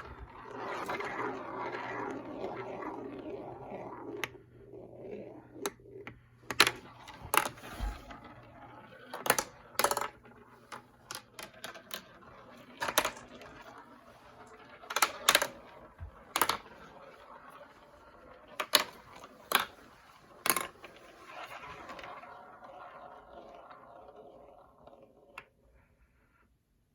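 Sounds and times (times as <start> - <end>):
marbles clacking: 0.0 - 25.6
marbles rolling: 0.0 - 25.7.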